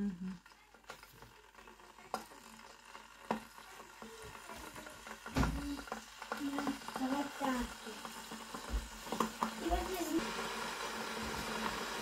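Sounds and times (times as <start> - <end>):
bubbles ticking and crackling: 0.0 - 10.2
kettle heating water: 0.0 - 12.0.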